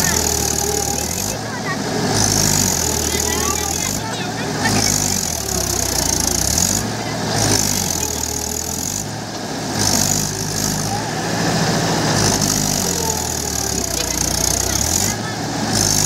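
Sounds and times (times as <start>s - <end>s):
tractor diesel engine working hard: 0.0s - 16.0s.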